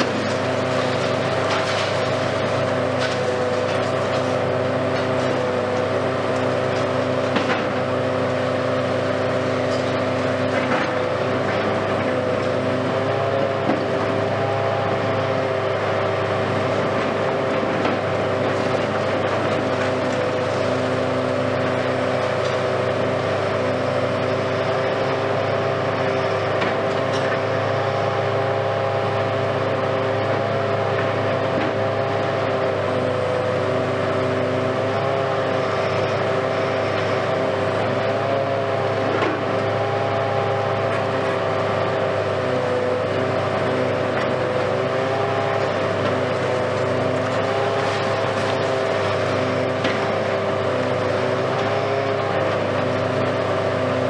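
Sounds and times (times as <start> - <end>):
excavator engine and hydraulic hum: 0.0 - 54.0.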